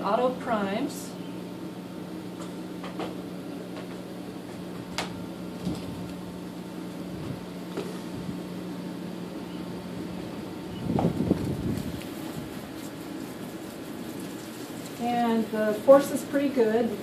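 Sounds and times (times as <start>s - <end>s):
water pump humming: 0.0s - 17.0s.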